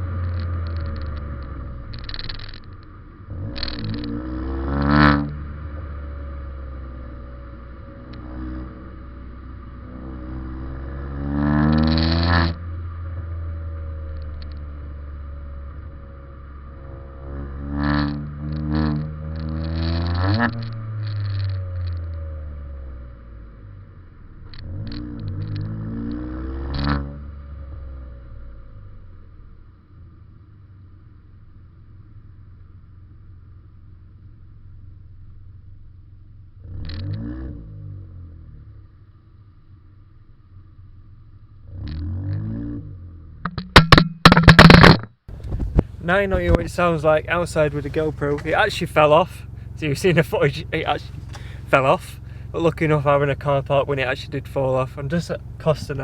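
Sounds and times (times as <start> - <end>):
car engine through exhaust: 0.0 - 56.0.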